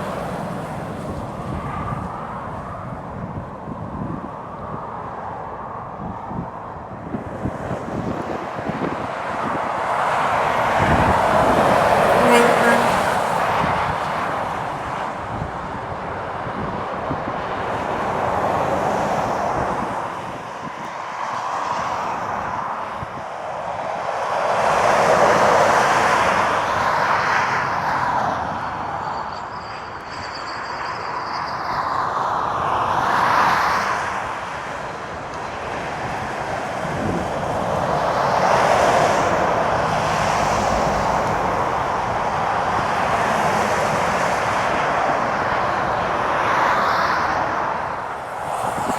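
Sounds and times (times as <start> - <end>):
trucks and traffic passing: 0.0 - 48.9
wind rumbling on microphone: 0.0 - 48.9.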